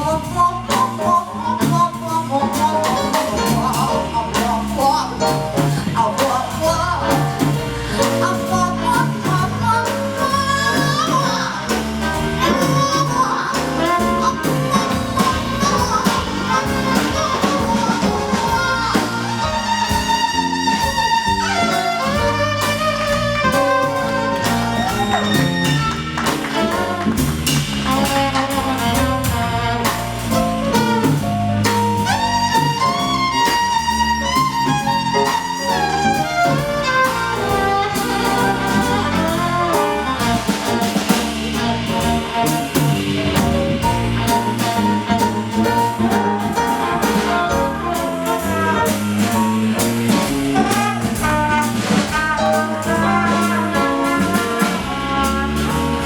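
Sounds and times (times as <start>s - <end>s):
jazz band playing: 0.0s - 56.0s.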